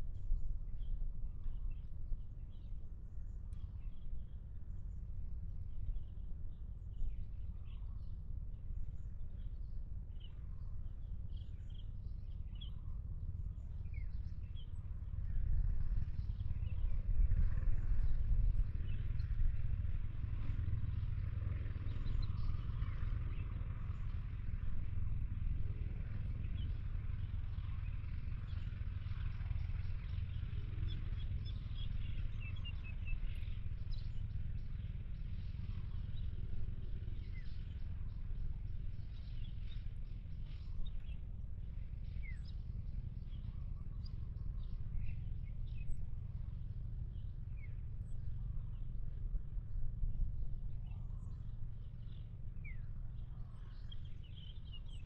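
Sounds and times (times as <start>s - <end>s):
low outdoor rumble: 0.0s - 55.0s.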